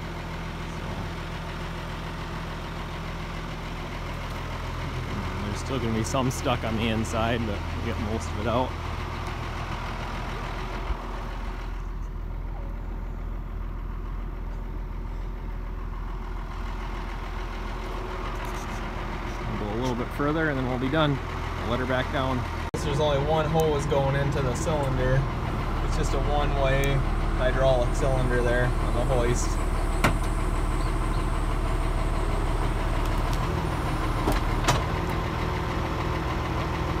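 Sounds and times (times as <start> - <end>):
tractor engine idling: 0.0 - 37.0.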